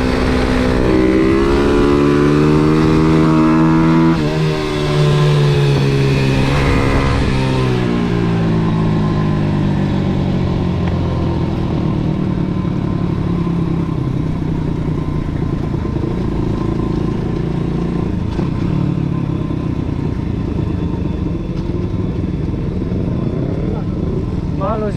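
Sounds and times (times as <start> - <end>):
pit bike engine running: 0.0 - 24.9.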